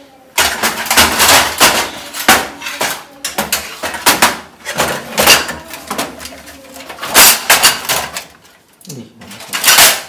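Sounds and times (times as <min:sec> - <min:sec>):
cutlery tray knocking and rattling: 0:00.4 - 0:08.4, 0:09.3 - 0:10.0.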